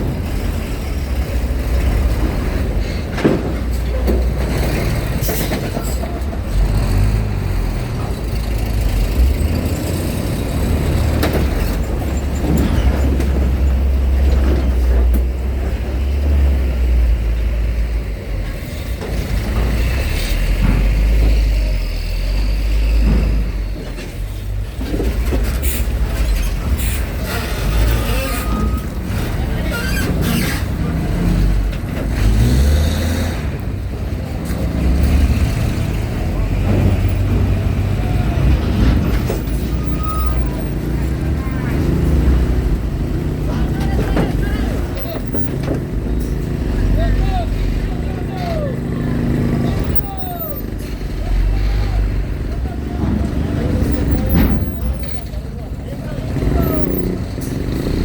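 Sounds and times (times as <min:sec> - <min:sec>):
diesel engine noise: 0:00.0 - 0:58.0
knocks and clanks: 0:00.0 - 0:58.0.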